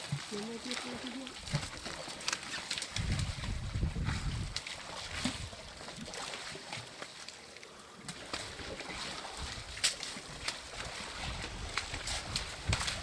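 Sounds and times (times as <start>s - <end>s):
short water splashes: 0.0s - 13.0s
water sloshing: 0.0s - 13.0s.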